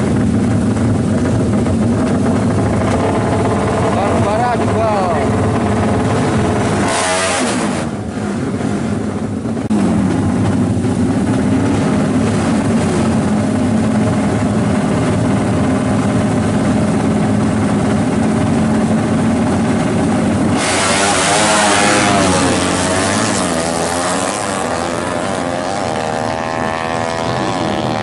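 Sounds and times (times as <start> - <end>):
racing motorcycle engines: 0.0 - 28.0.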